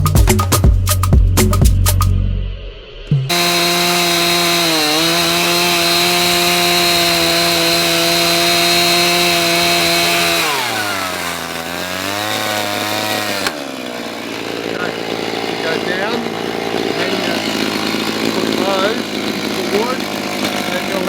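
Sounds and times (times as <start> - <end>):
chainsaw engine revving: 3.3 - 21.0.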